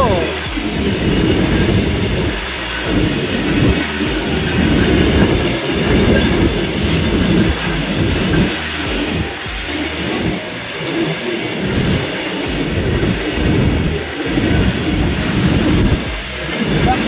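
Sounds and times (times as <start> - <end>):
freight train wagons rumbling on rails: 0.0 - 17.0.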